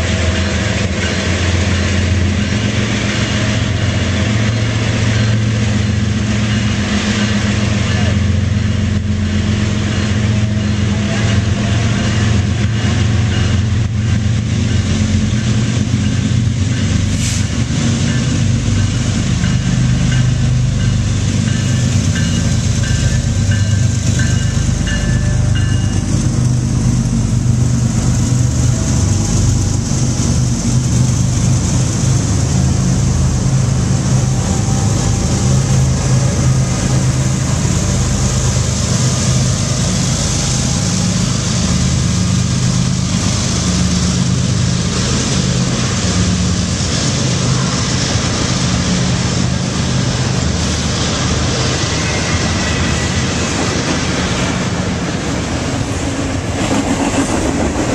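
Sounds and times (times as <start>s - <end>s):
locomotive bell ringing: 0.0s - 54.0s
diesel locomotive engine under load: 0.0s - 57.9s
train wheels on rails: 0.0s - 57.9s.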